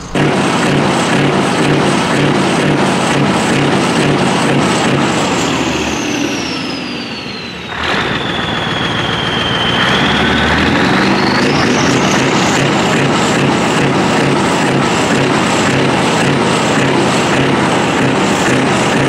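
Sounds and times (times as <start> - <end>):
high engine whine: 0.0 - 19.0
truck engine revving: 0.0 - 19.0.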